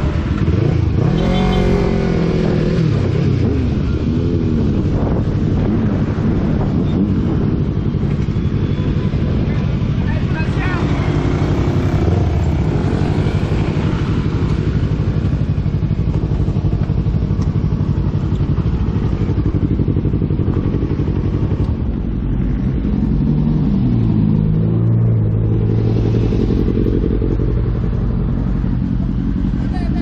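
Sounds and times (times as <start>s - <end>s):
motorcycle engine running: 0.0s - 30.0s
traffic engine hum: 0.0s - 30.0s.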